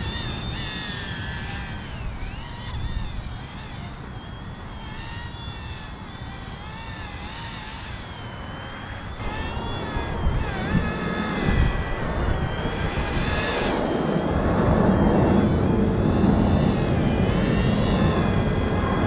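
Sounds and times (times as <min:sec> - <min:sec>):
rc helicopter motor whine: 0:00.0 - 0:19.0
wind rumbling on microphone: 0:00.0 - 0:19.0.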